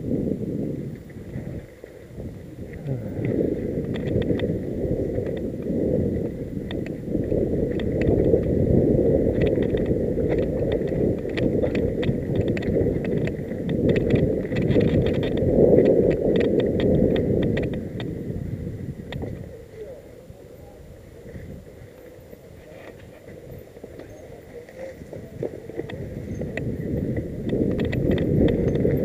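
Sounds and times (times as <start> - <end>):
wind on microphone: 0.0 - 29.0
bike clicks and rattles: 2.8 - 18.4, 21.2 - 29.0.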